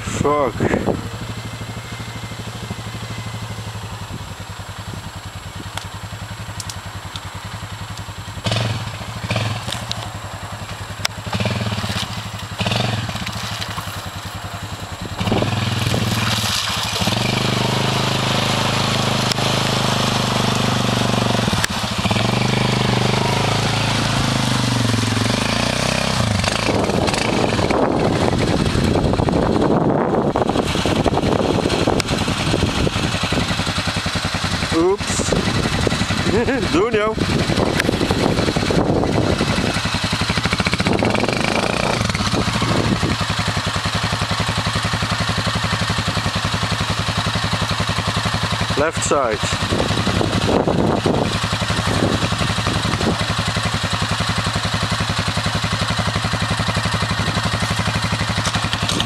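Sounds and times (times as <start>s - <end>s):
quad bike engine idling and revving: 0.0s - 59.0s
tyres churning mud and water: 11.2s - 59.0s.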